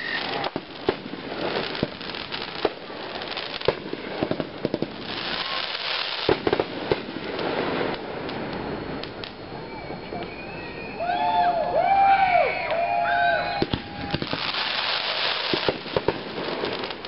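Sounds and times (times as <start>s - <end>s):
fireworks bangs: 0.0s - 11.7s, 12.7s - 17.0s
fireworks crackling hiss: 0.0s - 17.0s.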